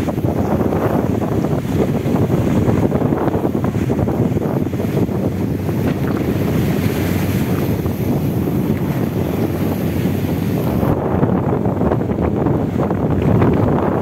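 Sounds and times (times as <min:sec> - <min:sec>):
waves rushing around a boat: 0:00.0 - 0:14.0
wind buffeting microphone: 0:00.0 - 0:14.0.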